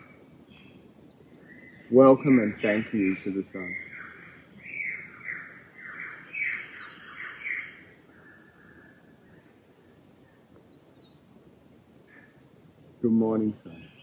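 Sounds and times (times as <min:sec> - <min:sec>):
bird descending calls: 0:00.0 - 0:14.0
faint high bird chirps: 0:00.0 - 0:14.0.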